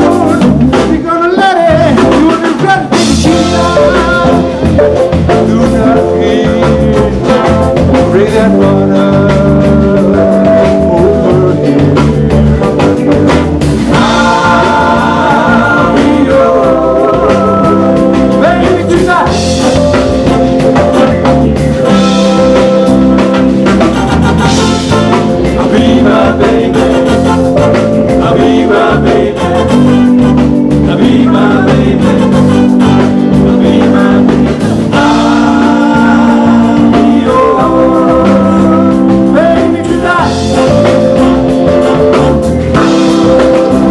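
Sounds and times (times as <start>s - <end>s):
live band playing: 0.0s - 43.9s
person singing: 0.0s - 43.9s.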